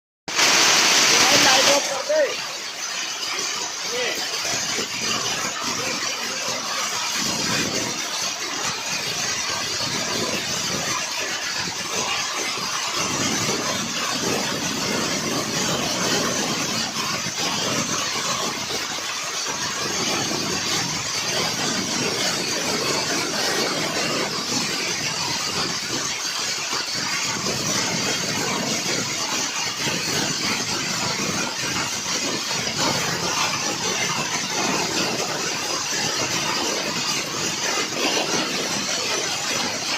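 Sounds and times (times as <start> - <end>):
hail and rain falling hard: 0.3 - 39.9.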